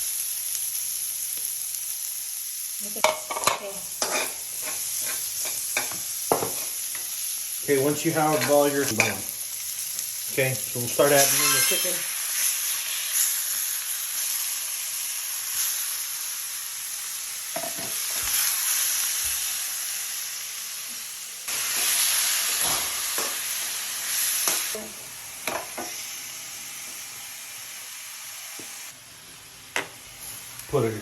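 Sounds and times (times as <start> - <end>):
chicken sizzling in oil: 0.0 - 31.0.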